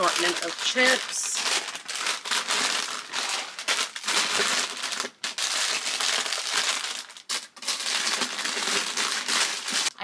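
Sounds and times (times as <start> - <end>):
plastic snack bags crinkling: 0.0 - 10.0.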